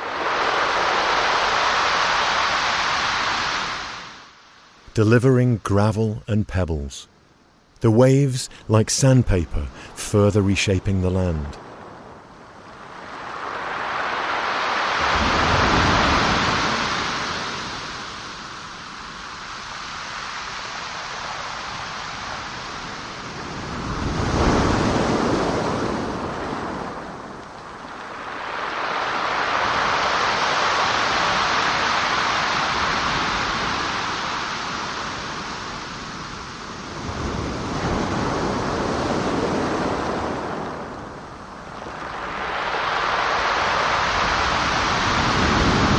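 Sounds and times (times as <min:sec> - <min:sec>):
waves breaking on pebble shore: 0:00.0 - 0:04.3, 0:12.8 - 0:45.9.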